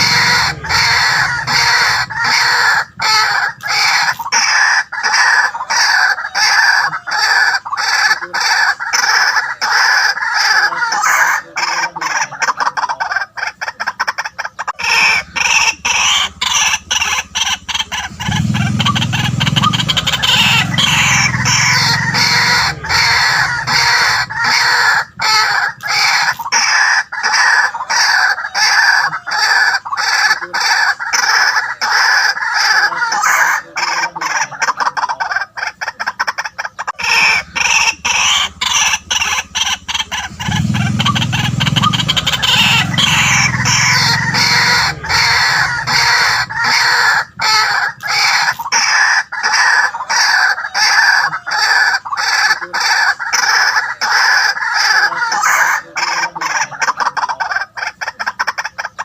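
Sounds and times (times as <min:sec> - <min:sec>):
waterhen calling harsh notes: 0:00.0 - 0:59.0.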